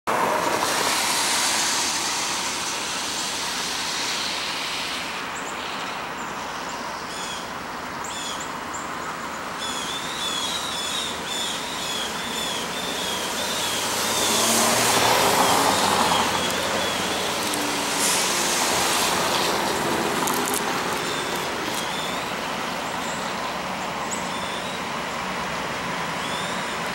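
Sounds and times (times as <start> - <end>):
freight train rushing: 0.1 - 8.0, 8.6 - 26.9
low locomotive engine tones: 0.1 - 26.9.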